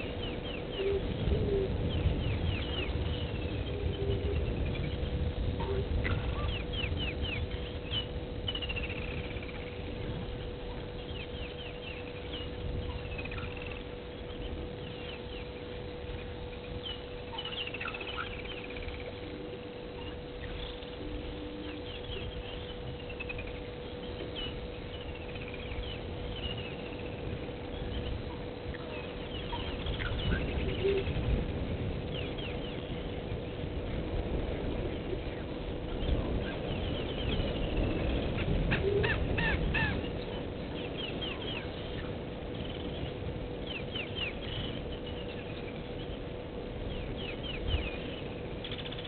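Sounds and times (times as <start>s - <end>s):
birds whistling and chirping: 0.0s - 31.4s, 32.1s - 33.5s, 34.8s - 49.0s
faint steady hum: 0.0s - 49.0s
low rumble: 0.0s - 49.0s.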